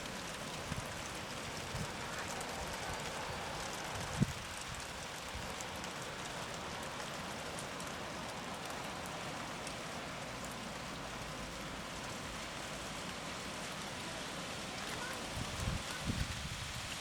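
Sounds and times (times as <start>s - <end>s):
heavy rain splashing: 0.0s - 17.0s.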